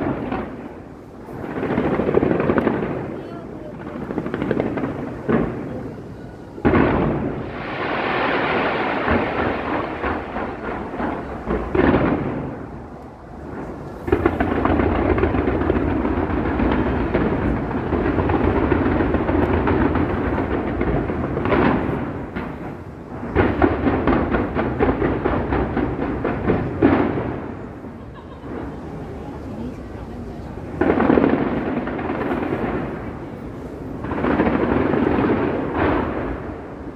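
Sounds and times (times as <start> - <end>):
fireworks booming: 0.0 - 36.9
fireworks crackling: 0.0 - 36.9.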